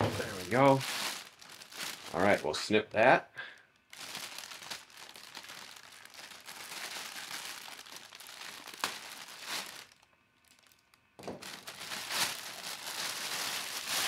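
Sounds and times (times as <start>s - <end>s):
plastic bag crinkling: 0.0s - 2.6s, 3.7s - 14.0s.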